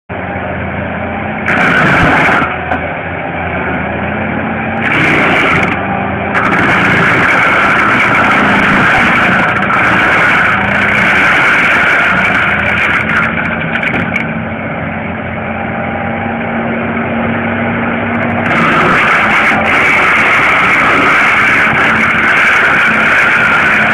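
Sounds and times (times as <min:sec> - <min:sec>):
diesel engine running under load: 0:00.1 - 0:23.9
mulching head grinding brush: 0:01.4 - 0:02.9, 0:03.5 - 0:14.4, 0:15.9 - 0:23.9.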